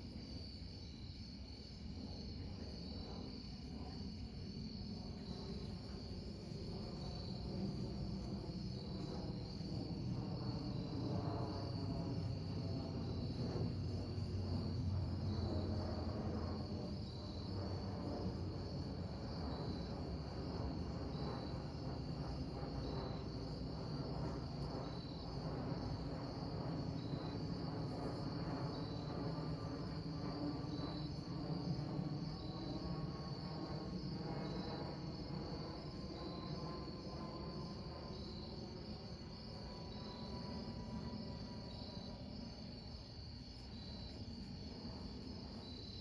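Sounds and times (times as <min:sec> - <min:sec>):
crickets chirping: 0:00.0 - 0:46.0
distant aircraft rumble: 0:02.2 - 0:46.0.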